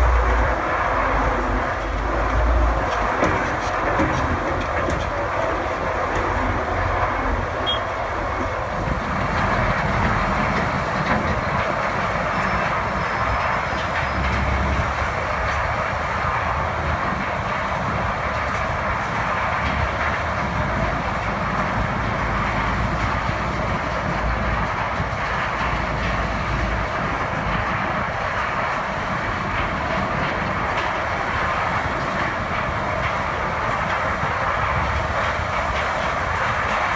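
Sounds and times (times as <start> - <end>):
heavy machinery rumbling and clattering: 0.0 - 36.9.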